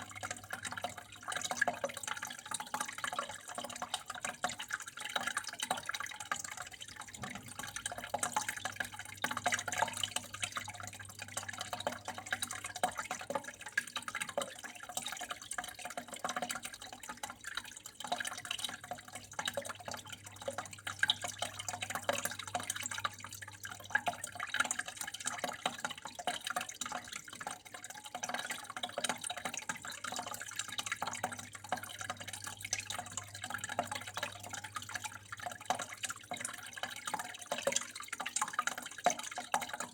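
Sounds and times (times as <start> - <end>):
water drips and splashes: 0.0 - 39.9
water flowing and trickling: 0.0 - 39.9.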